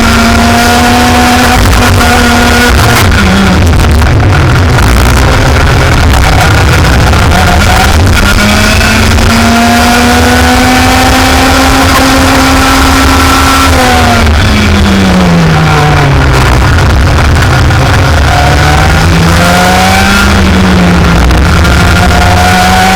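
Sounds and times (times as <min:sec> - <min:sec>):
steady low rumble: 0:00.0 - 0:22.7
racing kart engine under load: 0:00.0 - 0:22.9.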